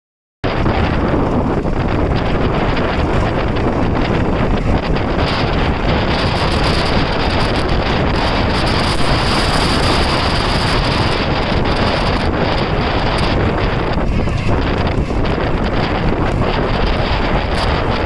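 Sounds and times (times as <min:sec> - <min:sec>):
tractor engine running: 0:00.4 - 0:18.0
wind buffeting microphone: 0:00.4 - 0:18.0.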